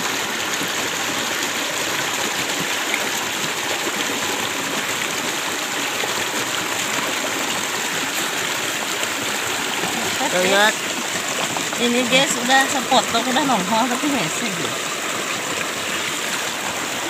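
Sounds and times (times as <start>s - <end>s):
stream rushing over stones: 0.0s - 17.0s.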